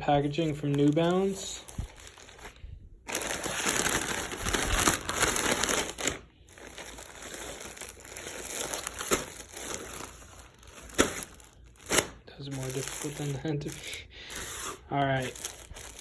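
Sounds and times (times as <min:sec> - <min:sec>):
packaging crinkling: 0:00.2 - 0:16.0.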